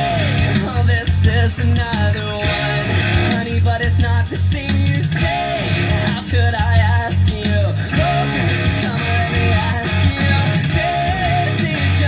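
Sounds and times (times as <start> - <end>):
song through a speaker: 0.0 - 12.0.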